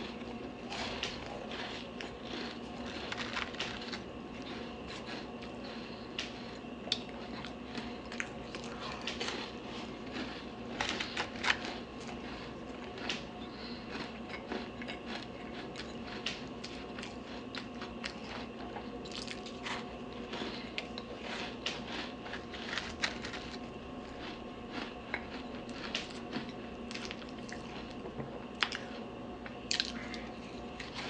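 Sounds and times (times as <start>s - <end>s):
crunchy cookie chewing: 0.0s - 31.0s.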